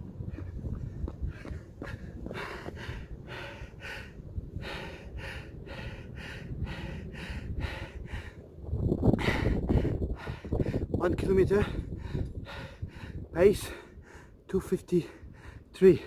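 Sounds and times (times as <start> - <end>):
man panting hard: 0.2 - 8.4, 9.1 - 16.0.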